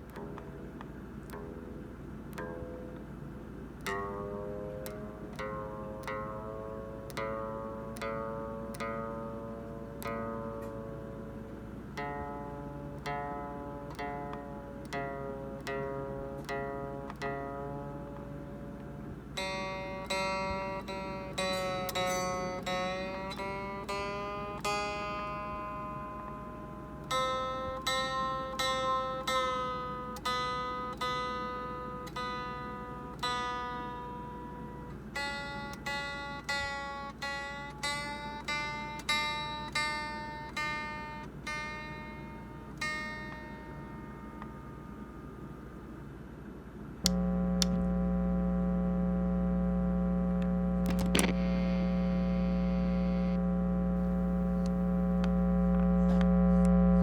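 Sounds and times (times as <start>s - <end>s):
plucked guitar-like melody: 0.0s - 46.1s, 50.8s - 51.7s, 54.0s - 57.0s.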